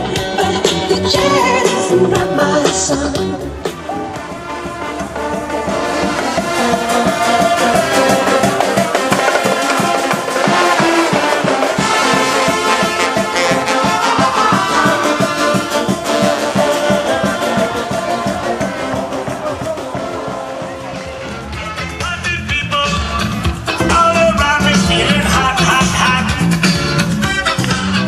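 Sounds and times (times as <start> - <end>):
brass band music: 0.0 - 28.0.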